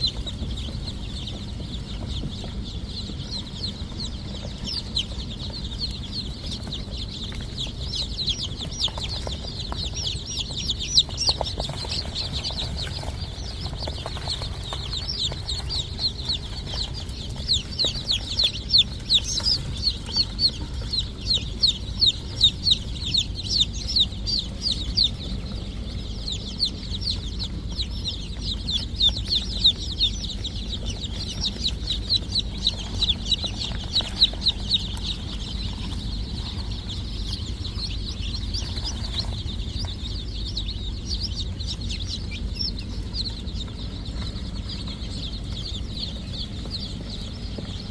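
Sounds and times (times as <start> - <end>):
chicks peeping: 0.0 - 47.9
low steady rumble: 0.0 - 47.9.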